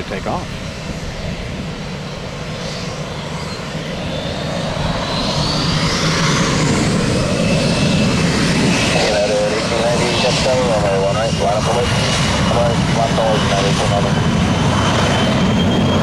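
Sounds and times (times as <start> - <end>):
jet engines spooling up: 0.0 - 16.0.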